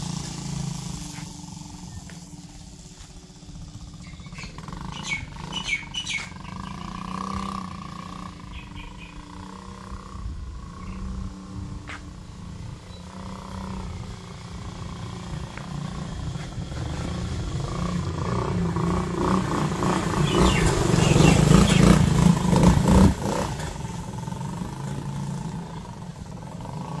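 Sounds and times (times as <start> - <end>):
small atv engine running: 0.0 - 27.0.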